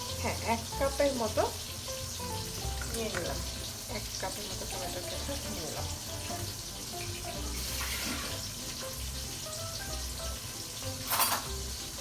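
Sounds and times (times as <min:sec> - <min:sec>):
eggplant sizzling in a pan: 0:00.0 - 0:12.0.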